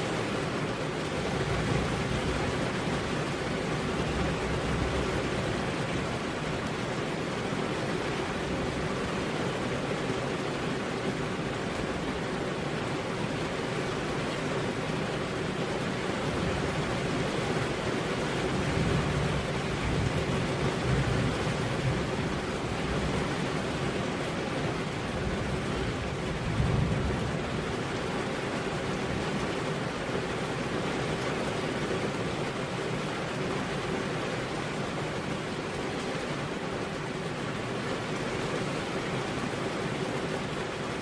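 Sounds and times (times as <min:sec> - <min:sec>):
heavy rain on a road: 0:00.0 - 0:41.0.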